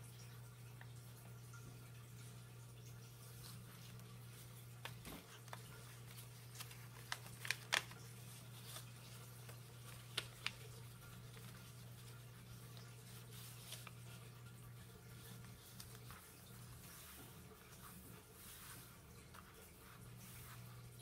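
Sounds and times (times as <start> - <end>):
paper crinkling: 3.3 - 21.0.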